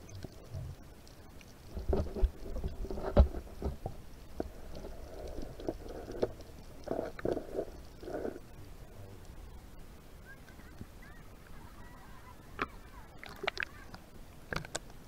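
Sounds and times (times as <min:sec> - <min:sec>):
muffled underwater water movement: 0:00.0 - 0:15.0.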